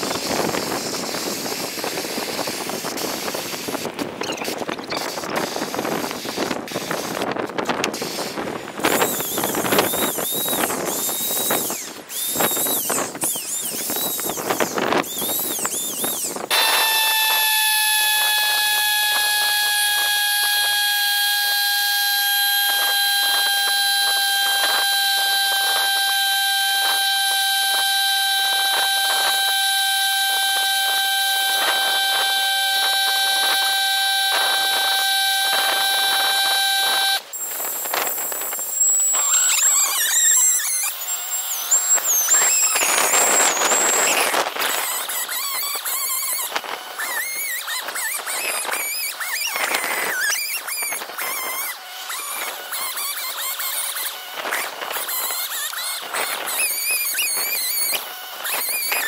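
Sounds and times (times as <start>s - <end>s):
power tool whining: 0.0s - 59.0s.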